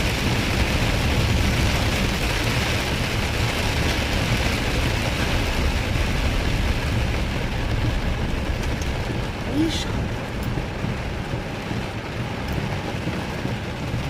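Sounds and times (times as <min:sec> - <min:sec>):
rain hitting vehicle: 0:00.0 - 0:14.0
road and engine rumble: 0:00.0 - 0:14.0.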